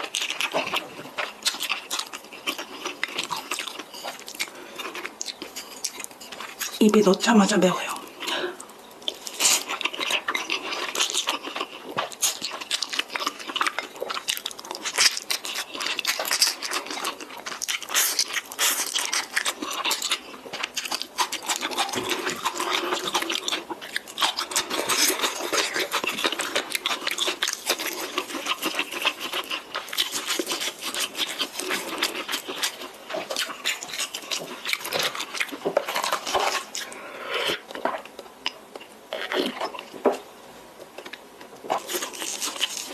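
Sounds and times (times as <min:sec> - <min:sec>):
wet chewing and smacking: 0:00.0 - 0:07.3, 0:07.9 - 0:40.2, 0:40.8 - 0:42.9.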